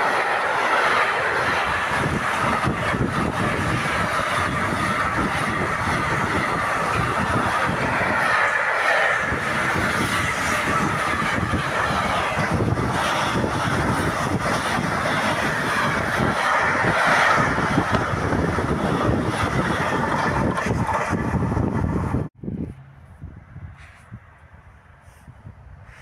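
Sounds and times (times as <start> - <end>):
train wheels clattering on rails: 0.0 - 21.9
freight train rolling past: 0.0 - 23.2.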